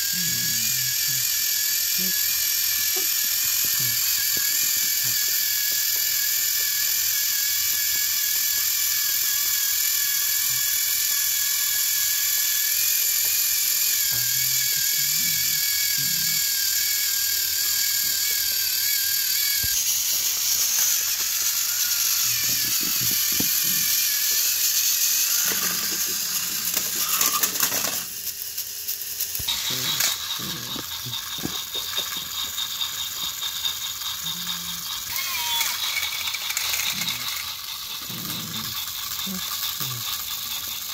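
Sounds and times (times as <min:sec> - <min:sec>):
toy train electric motors whining: 0:00.0 - 0:40.9
toy train gears rattling: 0:00.0 - 0:40.9.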